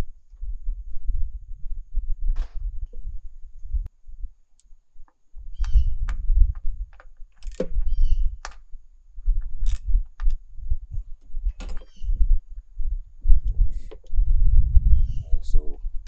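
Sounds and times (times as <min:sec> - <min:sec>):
continuous low rumble: 0:00.0 - 0:16.0.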